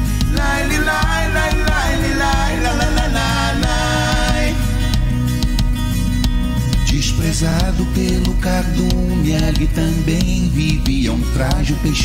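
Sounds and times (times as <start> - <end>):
person singing: 0.0 - 5.0, 6.9 - 12.0
acoustic guitar: 0.0 - 12.0.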